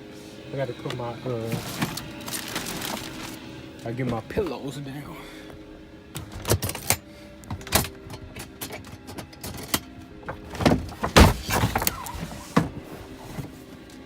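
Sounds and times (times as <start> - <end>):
bedding knocks and rustles: 0.9 - 4.3, 6.1 - 14.0.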